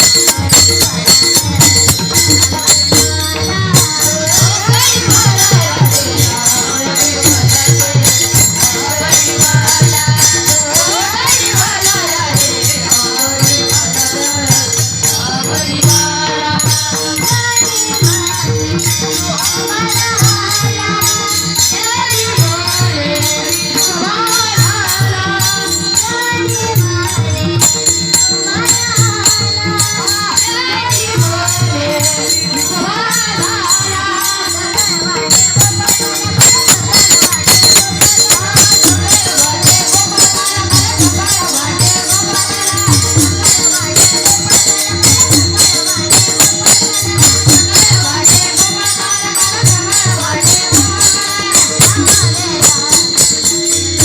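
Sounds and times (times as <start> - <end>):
drum rhythm: 0.0 - 54.0
jingling hand percussion: 0.0 - 54.0
person singing: 0.0 - 54.0.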